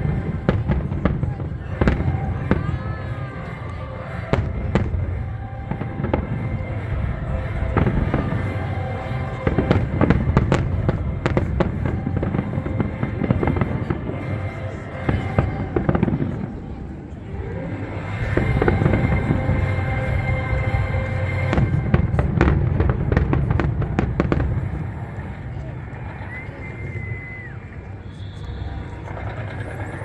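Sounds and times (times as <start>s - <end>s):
fireworks bangs and crackles: 0.0s - 26.4s
music: 0.0s - 30.0s.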